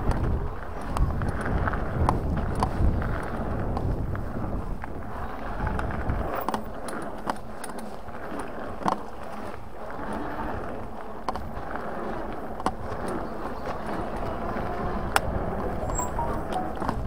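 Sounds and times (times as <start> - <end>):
bike clicks and rattles: 0.0 - 17.0
bike tyres rolling on gravel: 0.0 - 17.0.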